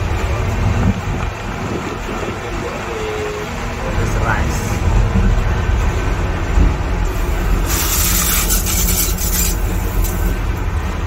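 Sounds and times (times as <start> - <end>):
train coach rumble: 0.0 - 11.0.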